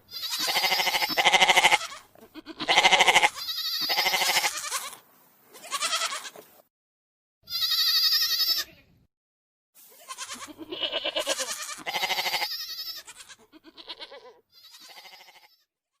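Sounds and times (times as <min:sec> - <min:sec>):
goats bleating: 0:00.0 - 0:05.0, 0:05.6 - 0:06.4, 0:07.5 - 0:08.9, 0:09.9 - 0:15.6.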